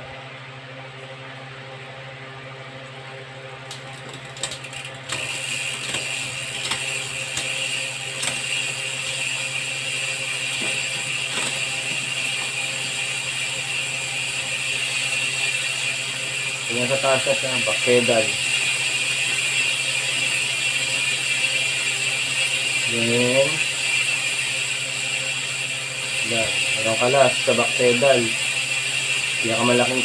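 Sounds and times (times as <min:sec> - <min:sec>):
freehub ratcheting whir: 0:03.6 - 0:30.0
bicycle drivetrain clicks: 0:03.7 - 0:30.0.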